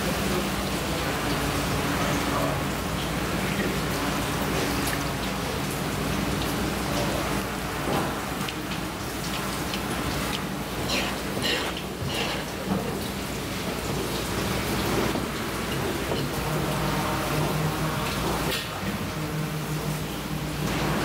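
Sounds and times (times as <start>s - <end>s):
tap water running: 0.0s - 21.0s.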